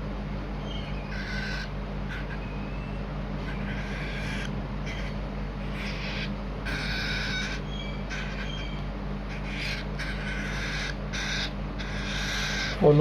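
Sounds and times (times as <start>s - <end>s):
steady low hum: 0.0s - 13.0s
cockatiel chicks begging calls: 0.5s - 13.0s.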